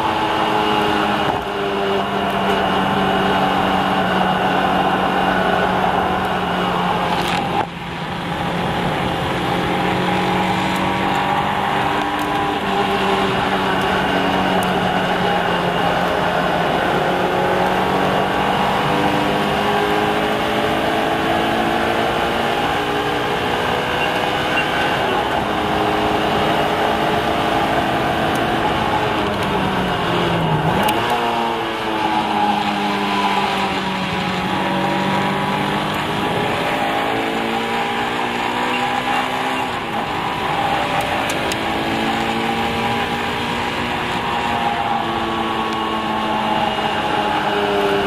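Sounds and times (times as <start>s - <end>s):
car engine under hard load: 0.0s - 48.0s
road and wind noise: 0.0s - 48.0s.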